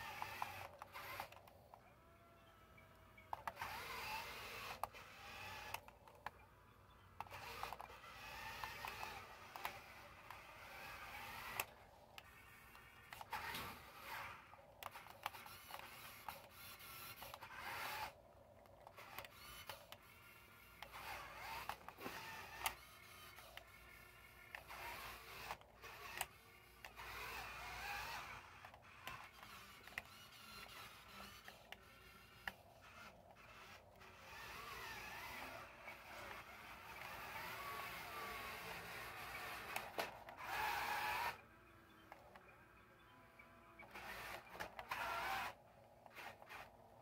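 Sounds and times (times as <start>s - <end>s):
clicks: 0.0s - 1.8s, 3.2s - 42.6s, 43.8s - 47.0s
toy electric motor whining: 0.0s - 47.0s.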